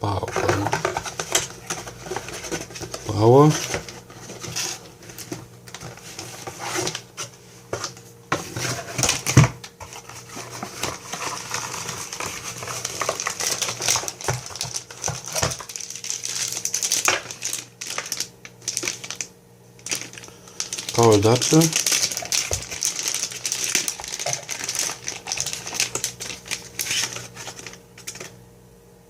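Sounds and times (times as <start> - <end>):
packaging rustling and crinkling: 0.2 - 28.4.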